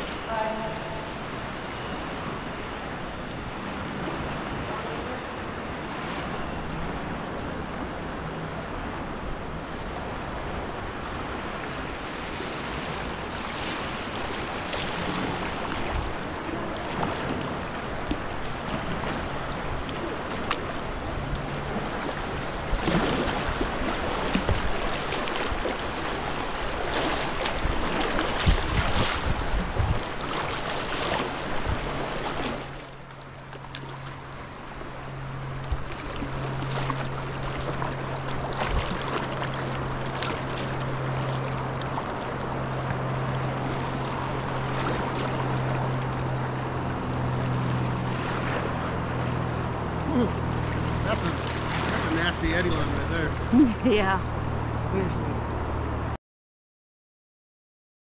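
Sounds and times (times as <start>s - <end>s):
river water rushing and splashing: 0.0s - 56.2s.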